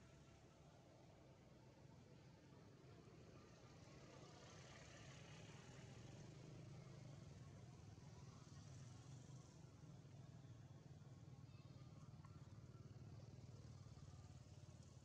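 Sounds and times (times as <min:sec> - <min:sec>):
faint low hum with hiss: 0:00.0 - 0:15.0.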